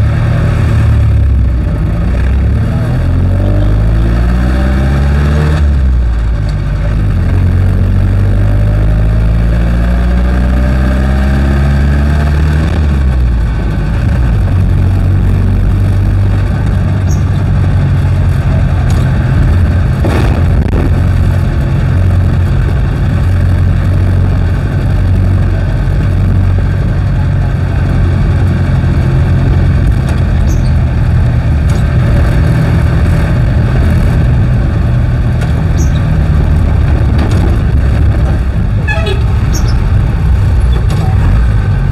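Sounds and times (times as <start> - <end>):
diesel engine accelerating: 0.0 - 41.9.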